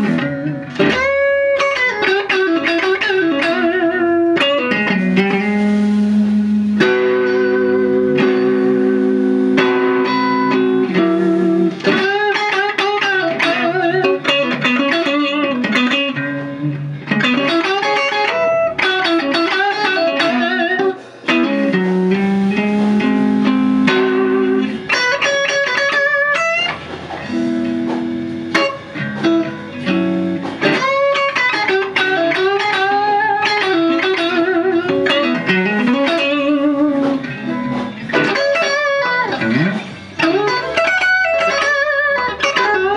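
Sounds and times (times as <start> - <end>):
electric guitar playing solo: 0.0 - 42.9.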